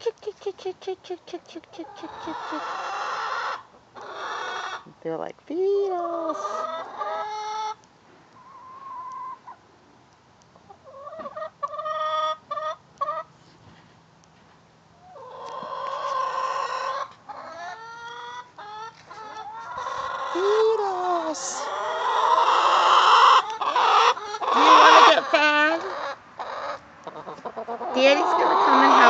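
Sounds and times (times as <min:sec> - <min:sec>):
hens clucking: 0:00.0 - 0:05.0, 0:05.9 - 0:09.6, 0:10.6 - 0:13.3, 0:15.0 - 0:29.0.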